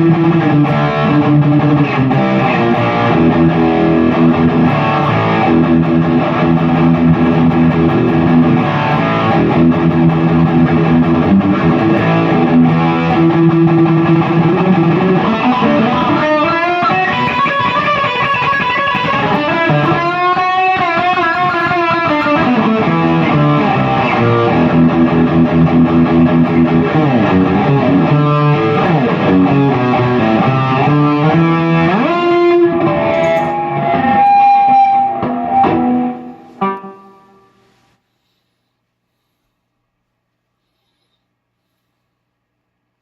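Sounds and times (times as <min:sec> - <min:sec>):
distorted electric guitar riff: 0:00.0 - 0:37.8.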